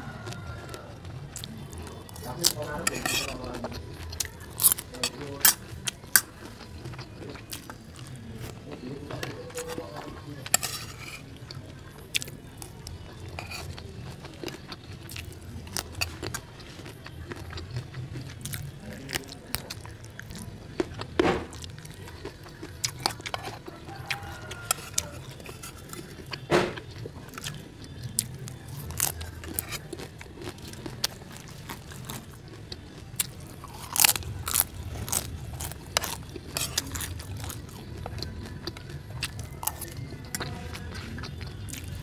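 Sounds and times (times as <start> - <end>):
person chewing and crunching: 0.0 - 42.0.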